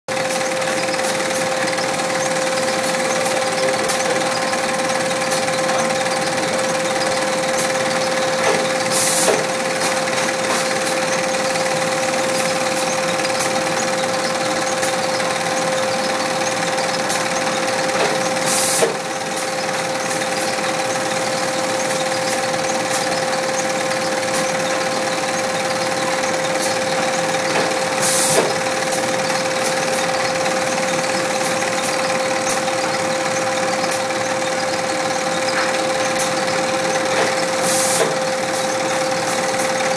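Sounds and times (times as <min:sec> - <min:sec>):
roller conveyor machine humming: 0:00.1 - 0:39.9.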